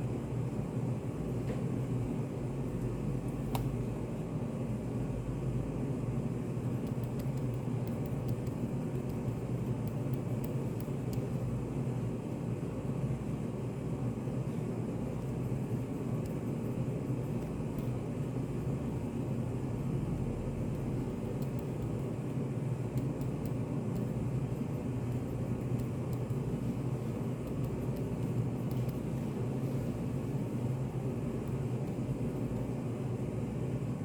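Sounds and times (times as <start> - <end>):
low ventilation hum: 0.0 - 34.0.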